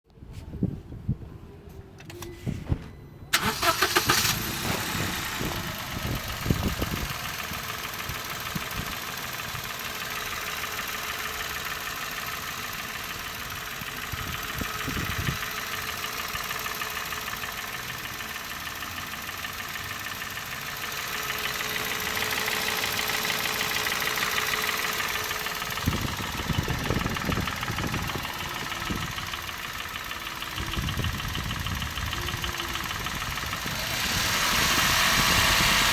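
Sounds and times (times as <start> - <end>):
car engine starting and knocking: 2.1 - 35.9.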